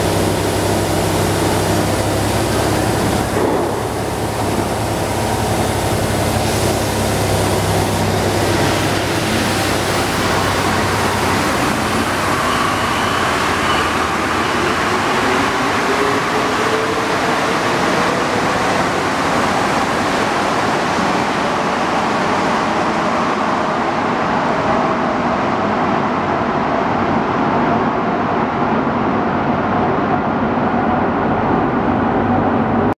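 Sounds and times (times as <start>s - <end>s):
train rumble with rising whine: 0.0s - 32.9s.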